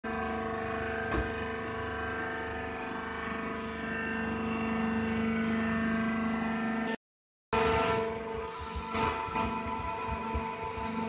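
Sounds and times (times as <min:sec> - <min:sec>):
hydraulic power unit humming: 0:00.1 - 0:07.0, 0:07.6 - 0:11.0.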